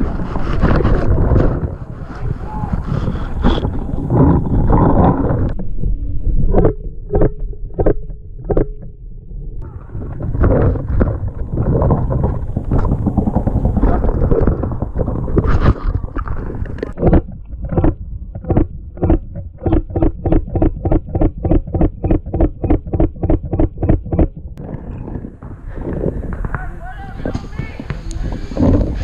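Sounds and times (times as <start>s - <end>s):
wind buffeting microphone: 0.0s - 5.7s, 9.6s - 29.0s.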